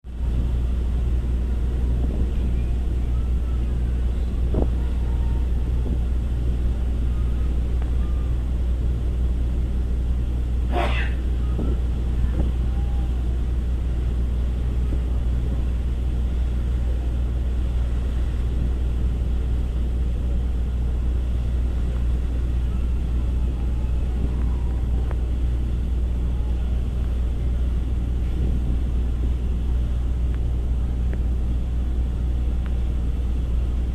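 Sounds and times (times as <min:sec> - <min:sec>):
ship engines droning: 0:00.0 - 0:33.9.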